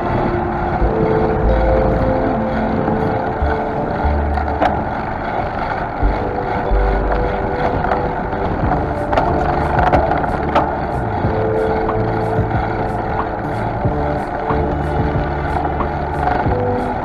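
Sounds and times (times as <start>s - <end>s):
bicycle tyre rolling on asphalt: 0.0s - 17.0s
sharp clicks and rattles: 0.0s - 17.0s
wind on microphone: 0.0s - 17.0s.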